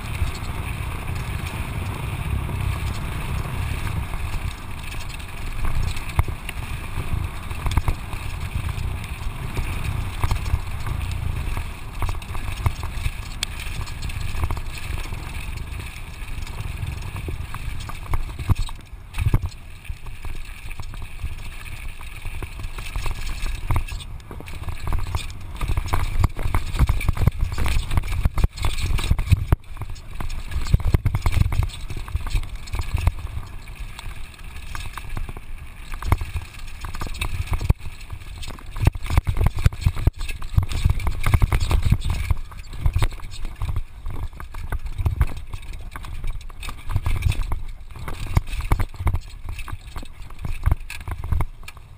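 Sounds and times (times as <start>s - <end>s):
bike clattering over bumps: 0.0s - 51.9s
tyres crunching on gravel: 0.0s - 51.9s
wind buffeting microphone: 0.0s - 51.9s.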